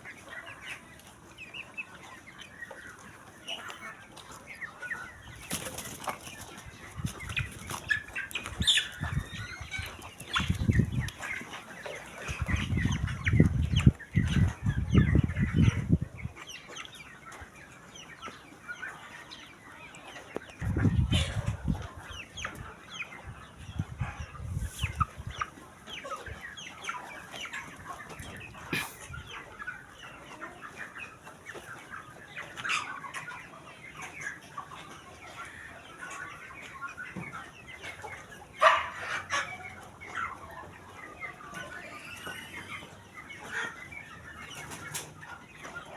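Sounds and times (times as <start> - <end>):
chickens clucking and peeping: 0.0 - 45.9.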